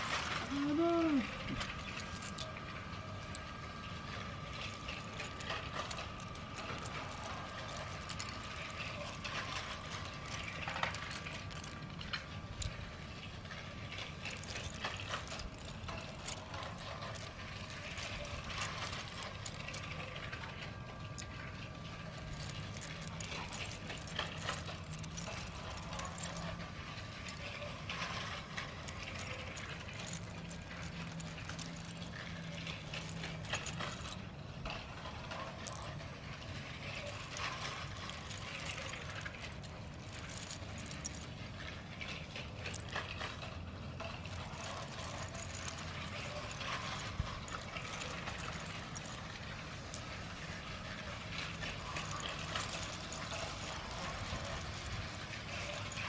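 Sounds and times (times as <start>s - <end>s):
toy train wheels clicking on track: 0.0s - 56.0s.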